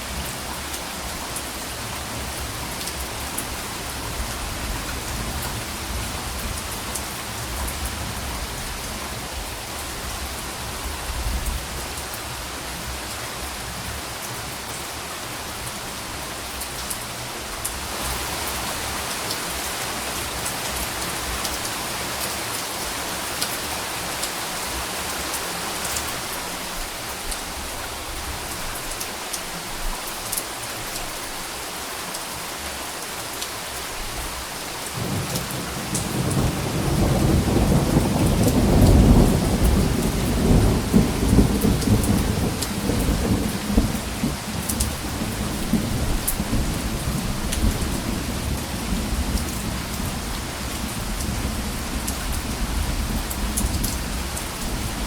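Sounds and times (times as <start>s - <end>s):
rain pattering on a surface: 0.0s - 55.0s.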